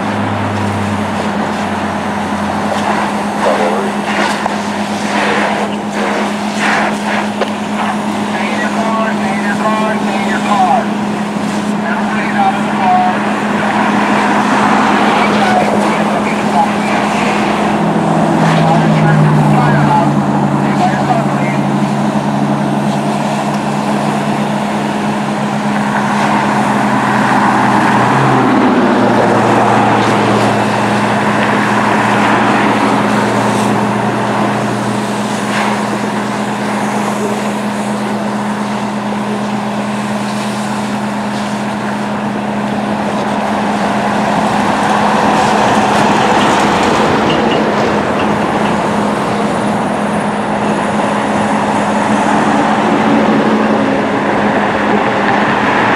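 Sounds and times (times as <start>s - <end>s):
fire engine engine drone: 0.0s - 55.9s.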